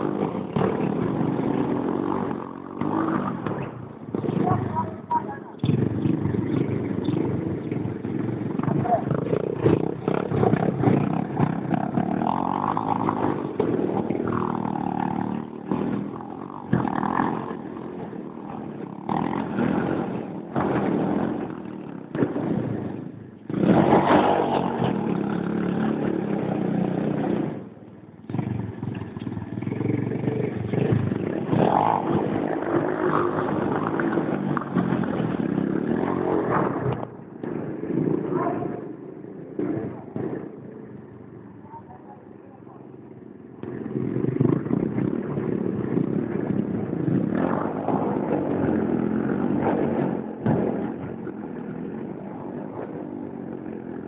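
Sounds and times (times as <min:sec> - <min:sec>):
small motorbike engine revving: 0:00.0 - 0:41.1, 0:43.6 - 0:54.0.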